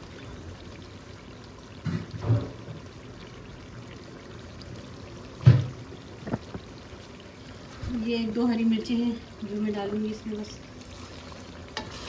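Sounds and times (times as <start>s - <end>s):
gravy simmering in a pan: 0.0s - 12.0s.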